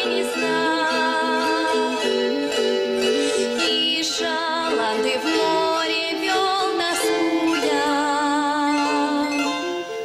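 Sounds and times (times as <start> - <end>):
folk ensemble playing: 0.0 - 10.0
plucked strings: 0.0 - 10.0.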